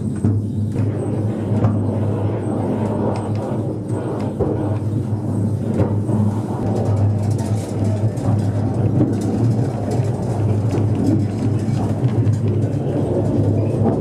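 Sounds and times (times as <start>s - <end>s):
funicular car rumbling on track: 0.0s - 14.0s.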